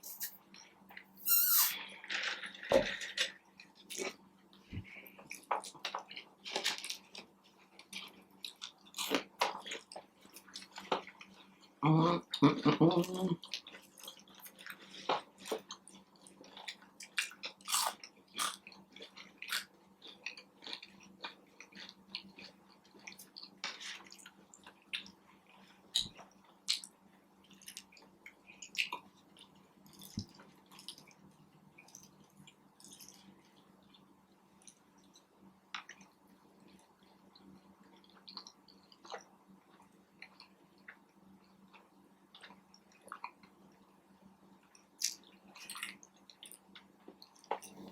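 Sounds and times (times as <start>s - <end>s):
person chewing food: 3.2s - 11.8s, 13.4s - 43.8s.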